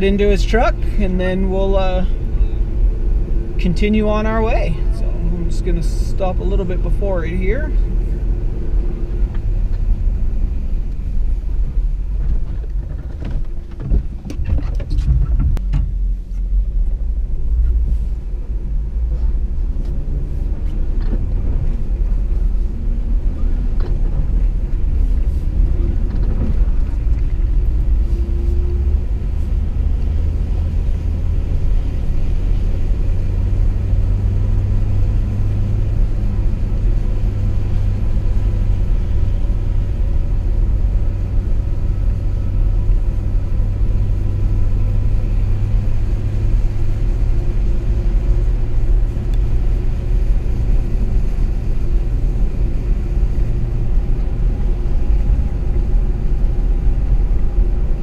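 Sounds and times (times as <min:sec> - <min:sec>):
truck engine low rumble: 0:00.0 - 0:58.0.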